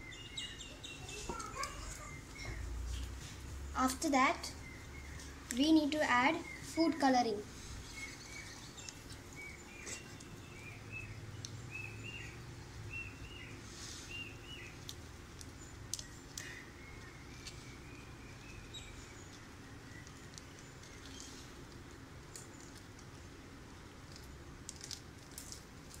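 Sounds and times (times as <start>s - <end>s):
bird chirping: 0.0s - 14.9s, 15.5s - 21.6s.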